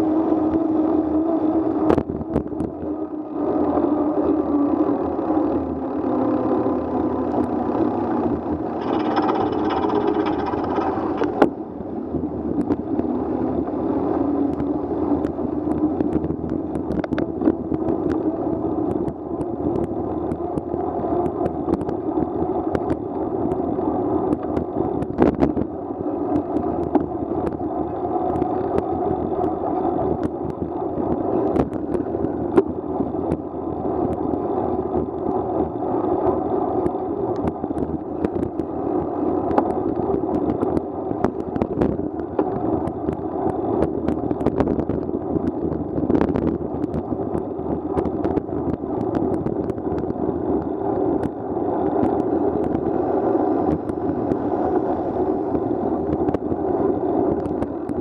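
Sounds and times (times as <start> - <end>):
wind over camera: 0.0 - 58.0.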